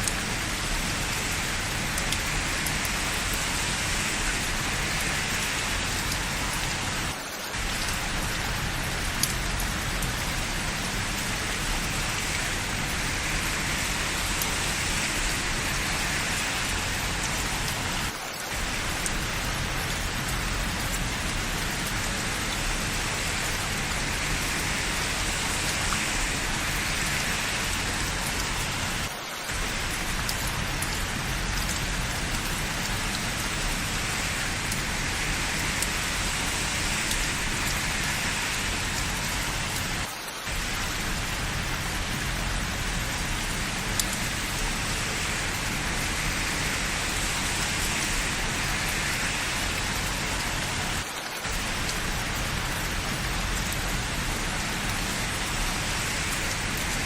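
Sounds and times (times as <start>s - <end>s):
rain on hard surfaces: 0.0s - 57.0s.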